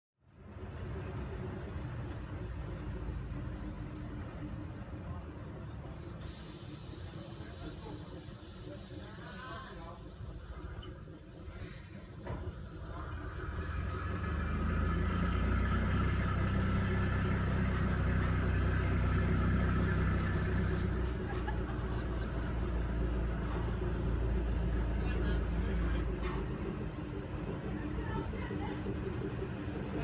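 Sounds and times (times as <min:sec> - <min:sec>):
diesel locomotive engine running: 0:00.2 - 0:30.0.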